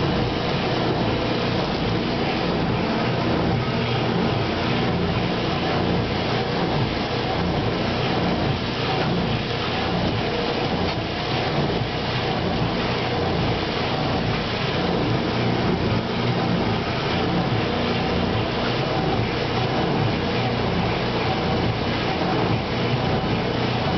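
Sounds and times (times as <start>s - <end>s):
low steady hum: 0.0s - 23.9s
water pouring into washer tub: 0.0s - 23.9s.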